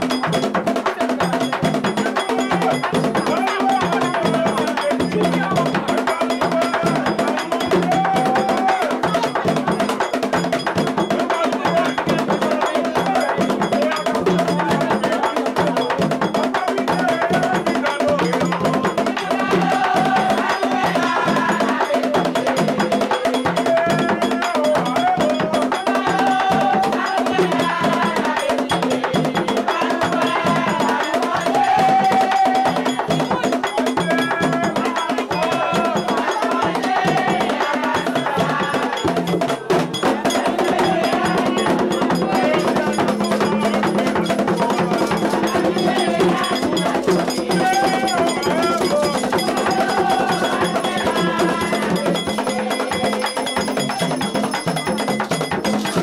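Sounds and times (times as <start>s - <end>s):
fast percussion rhythm: 0.0s - 56.0s
voices singing: 0.0s - 56.0s.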